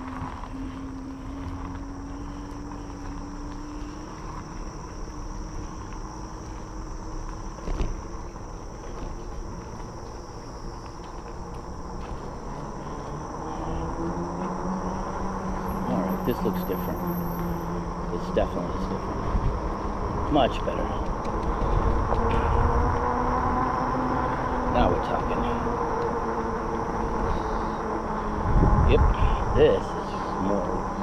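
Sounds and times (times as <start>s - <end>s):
electric motor whine: 0.0s - 31.0s
insect drone: 0.0s - 31.0s
tyres rumbling: 0.0s - 31.0s
wind: 0.0s - 31.0s.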